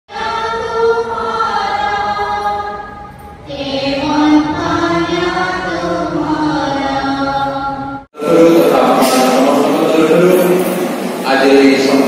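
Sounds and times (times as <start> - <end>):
voices singing a hymn: 0.1 - 12.0.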